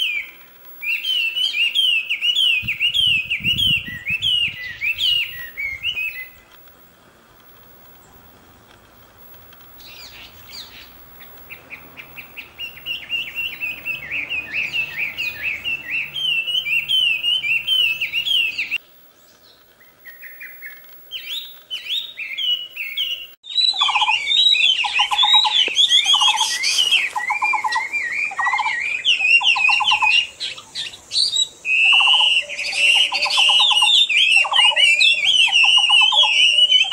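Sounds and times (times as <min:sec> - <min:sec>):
laughing thrush singing: 0:00.0 - 0:06.5, 0:09.7 - 0:36.9.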